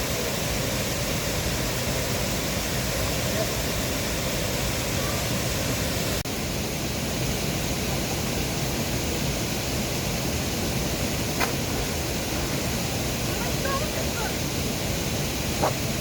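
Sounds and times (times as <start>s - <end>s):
stream water flowing: 0.1s - 16.0s.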